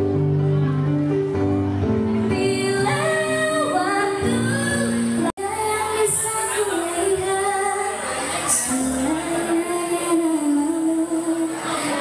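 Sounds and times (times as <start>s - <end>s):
instrumental accompaniment: 0.0s - 11.3s
girl singing pop ballad: 2.3s - 12.0s.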